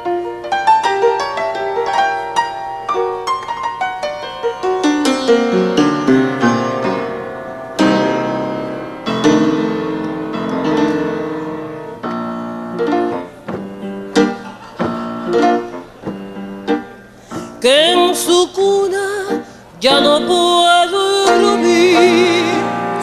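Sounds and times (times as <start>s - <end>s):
slow solo piano: 0.0s - 23.0s.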